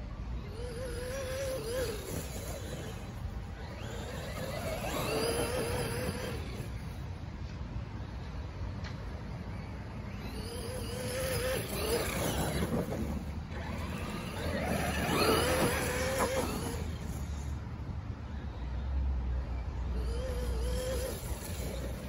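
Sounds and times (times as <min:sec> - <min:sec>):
electric motor and gears whining: 0:00.0 - 0:07.2, 0:09.0 - 0:17.8, 0:19.8 - 0:22.0.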